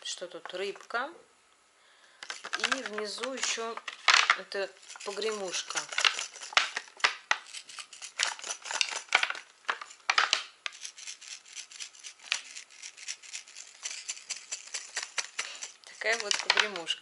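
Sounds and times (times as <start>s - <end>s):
plastic blister pack crackling: 2.2s - 17.0s.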